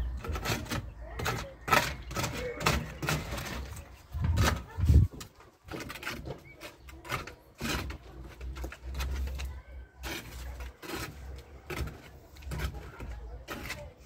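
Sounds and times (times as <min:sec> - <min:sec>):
stones knocking and scraping: 0:00.0 - 0:14.0.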